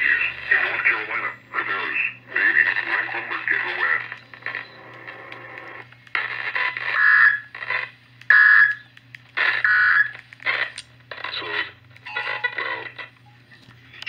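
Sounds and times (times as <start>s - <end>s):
radio broadcast in choppy bursts: 0.0s - 13.1s
steady low hum: 0.0s - 14.0s.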